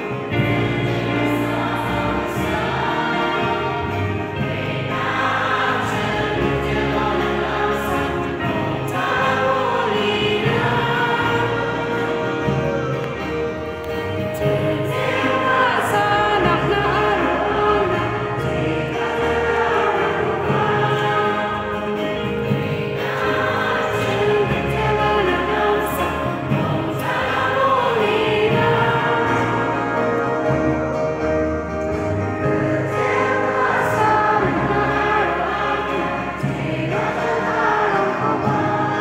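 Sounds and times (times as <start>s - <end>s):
choir singing a hymn: 0.0s - 39.0s
instrumental accompaniment: 0.0s - 39.0s.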